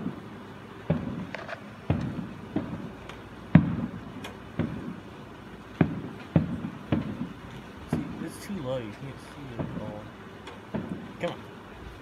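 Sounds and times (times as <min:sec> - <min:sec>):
fireworks bangs with rumbling tails: 0:00.0 - 0:11.4.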